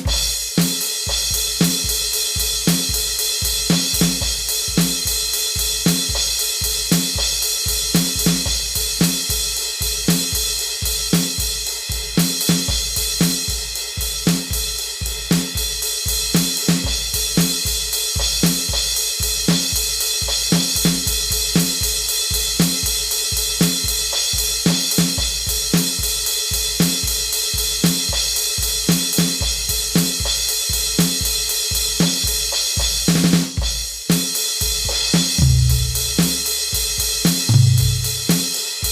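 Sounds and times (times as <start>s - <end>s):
drum kit rock beat: 0.0s - 38.9s.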